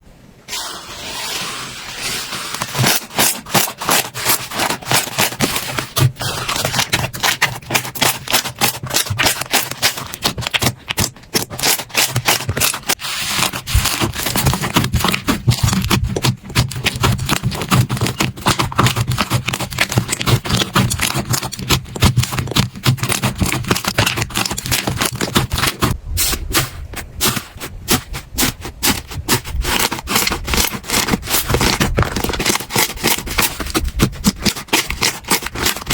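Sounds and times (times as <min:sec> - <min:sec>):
slime clicking and crackling: 0:02.6 - 0:26.4, 0:27.2 - 0:35.9.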